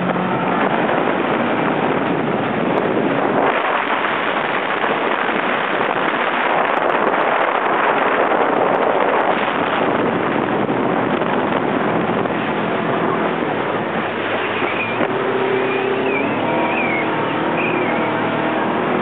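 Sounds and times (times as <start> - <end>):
motorboat engine and water rush: 0.0 - 19.0.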